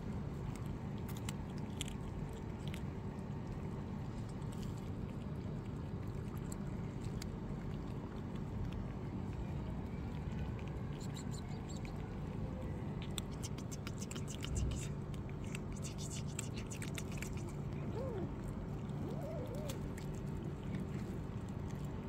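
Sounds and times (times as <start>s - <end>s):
cats crunching dry kibble: 0.0s - 22.0s
low background hum: 0.0s - 22.0s.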